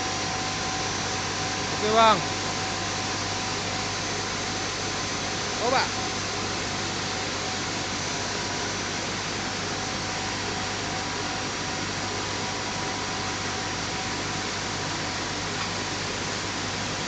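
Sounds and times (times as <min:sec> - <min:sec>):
faint machinery hum: 0:00.0 - 0:17.0.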